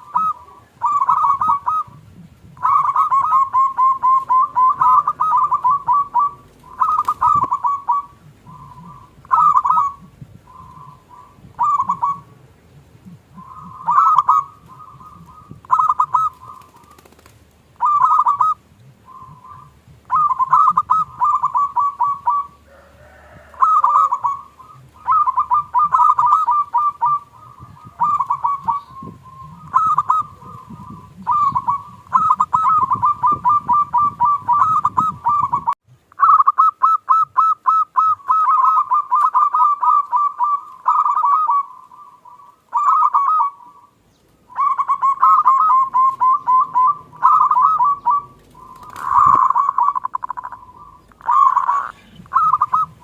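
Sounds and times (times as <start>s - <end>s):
doves cooing: 0.0s - 53.0s.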